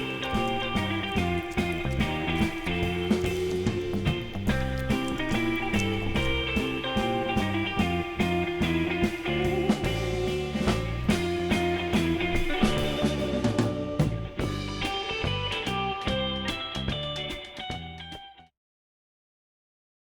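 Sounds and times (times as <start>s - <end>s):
guitar-led rock music: 0.0s - 18.5s.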